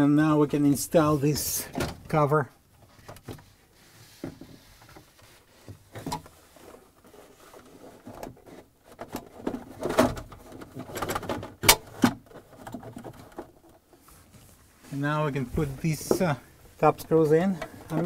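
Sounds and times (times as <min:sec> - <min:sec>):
plastic cover rustling and creaking: 0:00.6 - 0:18.0.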